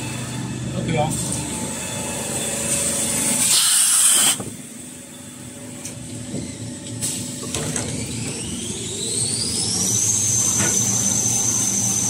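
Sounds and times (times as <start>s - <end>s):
machine whine rising in pitch: 0.0s - 7.0s, 7.7s - 12.0s
factory machinery running: 0.0s - 12.0s.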